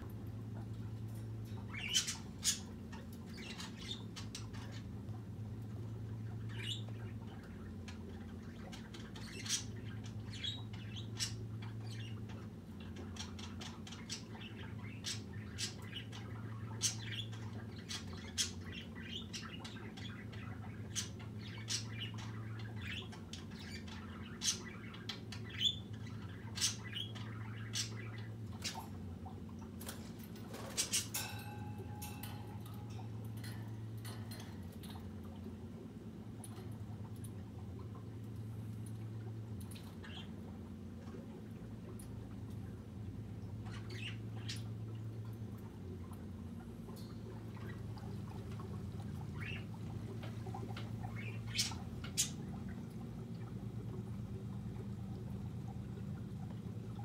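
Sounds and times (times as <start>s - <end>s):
bird chirping and clicking: 0.0s - 57.0s
steady low hum: 0.0s - 57.0s.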